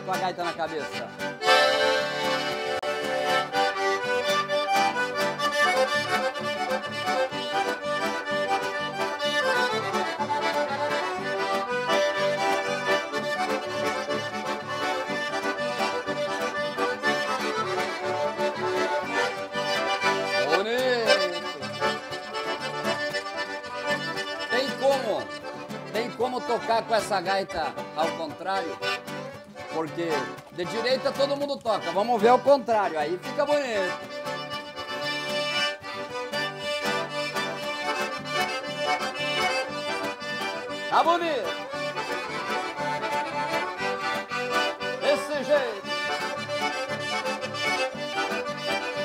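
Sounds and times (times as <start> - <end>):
accordions bass and chord rhythm: 0.0 - 49.0
button accordion lively tune: 0.0 - 49.0.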